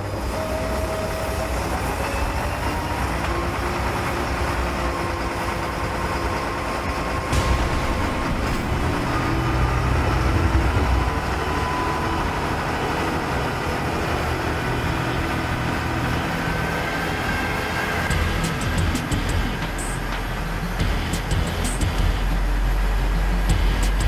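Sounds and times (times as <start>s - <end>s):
low rumble with faint whining: 4.6s - 24.0s.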